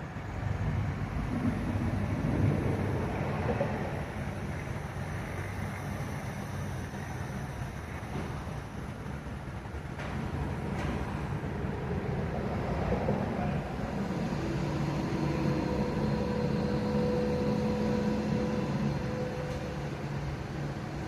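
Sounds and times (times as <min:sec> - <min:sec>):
large vehicle engine running: 0:00.0 - 0:21.0.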